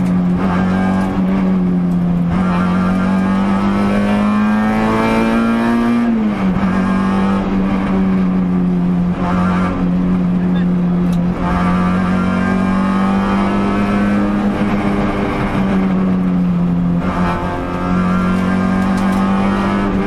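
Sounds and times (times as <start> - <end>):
car engine under hard driving: 0.0 - 20.0.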